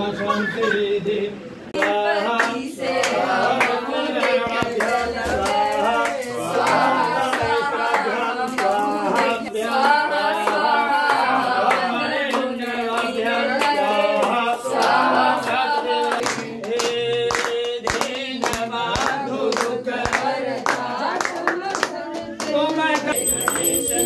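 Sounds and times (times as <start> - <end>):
group singing a hymn: 0.0 - 24.0
hand clapping: 1.8 - 15.0, 16.0 - 24.0.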